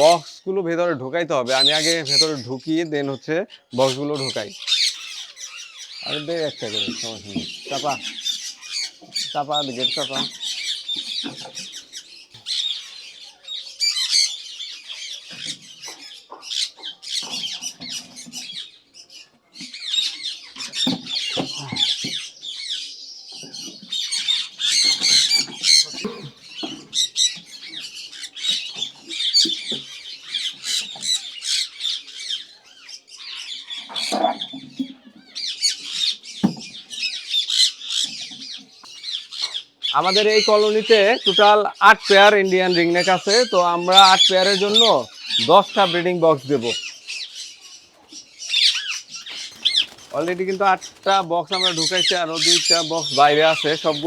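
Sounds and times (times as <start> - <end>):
parakeets squawking: 0.0 - 54.0.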